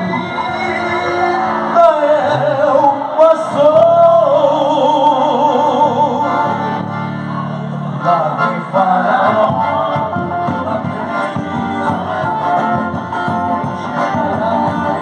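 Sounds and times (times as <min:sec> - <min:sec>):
instrumental backing: 0:00.0 - 0:15.0.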